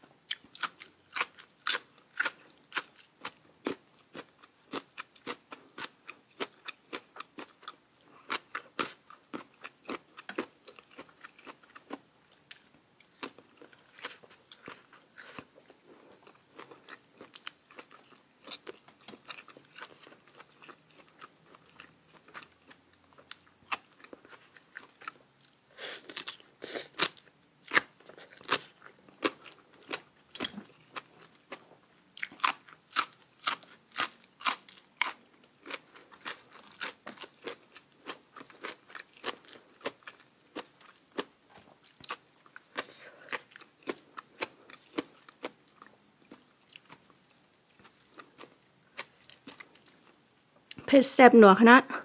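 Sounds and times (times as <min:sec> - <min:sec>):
crunching of crisp food: 0:00.3 - 0:50.9.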